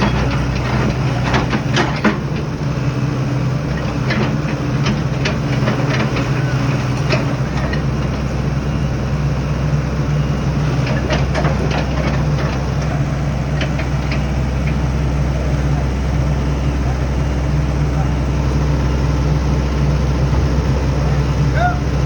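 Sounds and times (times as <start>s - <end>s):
heavy vehicle engine idling: 0.0s - 22.0s.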